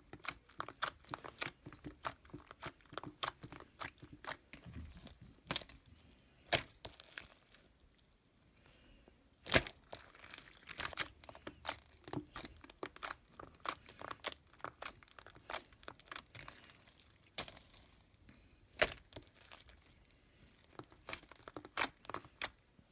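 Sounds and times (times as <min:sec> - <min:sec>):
crunchy slime crackling: 0:00.0 - 0:08.2, 0:09.4 - 0:22.6.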